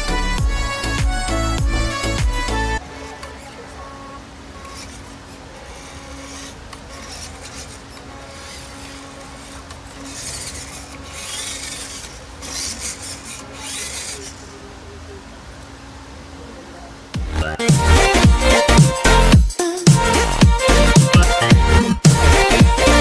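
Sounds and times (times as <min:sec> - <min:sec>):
toy truck motor whirring: 0:00.0 - 0:16.0, 0:17.8 - 0:23.0.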